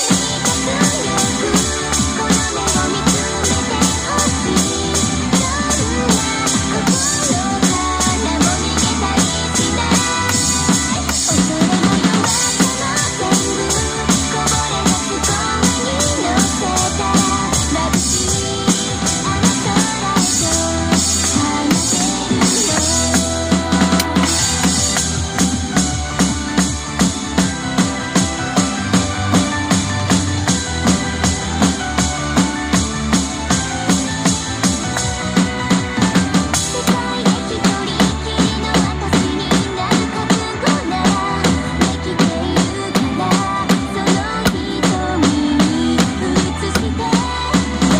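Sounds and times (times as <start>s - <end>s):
bass drum and snare beat: 0.0s - 47.9s
recorded pop song: 0.0s - 47.9s.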